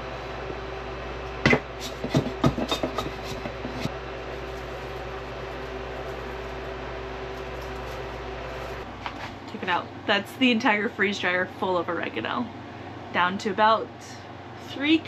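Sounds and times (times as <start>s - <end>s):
steady low hum with tone: 0.0s - 15.0s.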